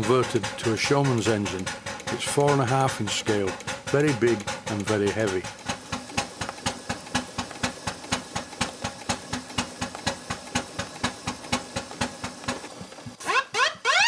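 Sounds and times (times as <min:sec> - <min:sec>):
model steam engine beating: 0:00.0 - 0:14.0.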